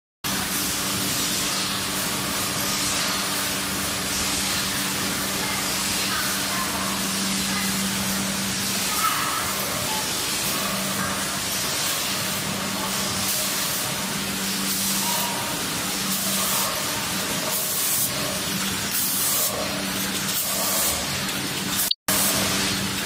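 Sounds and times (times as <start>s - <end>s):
packing machine humming: 0.3s - 23.0s
pneumatic air hisses: 0.5s - 21.1s.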